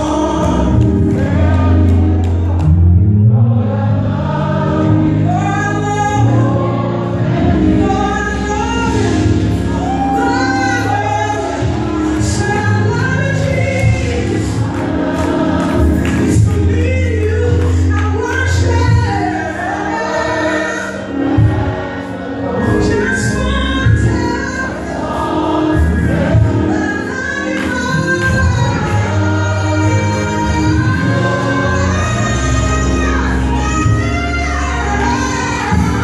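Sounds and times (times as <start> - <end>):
choir singing gospel: 0.0 - 36.0
instrumental accompaniment: 0.0 - 36.0.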